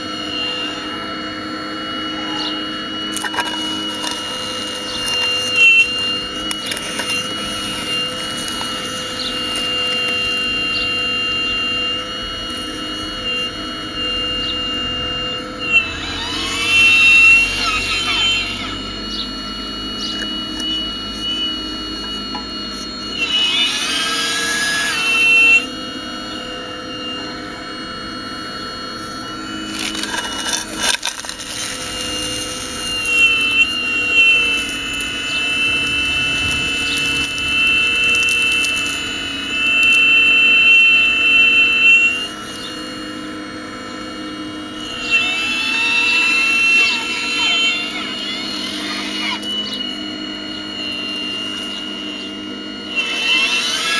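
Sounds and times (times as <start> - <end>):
model excavator motors whining: 0.0 - 53.9.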